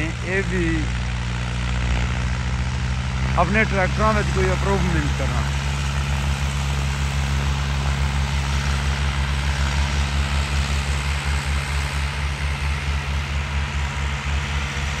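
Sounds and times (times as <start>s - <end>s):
tractor diesel engines droning: 0.0s - 15.0s.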